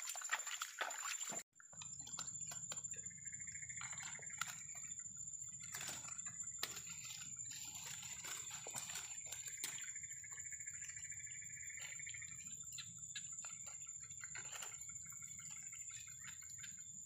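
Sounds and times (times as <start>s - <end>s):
small water splashes: 0.0s - 17.0s
water dripping: 0.0s - 17.0s.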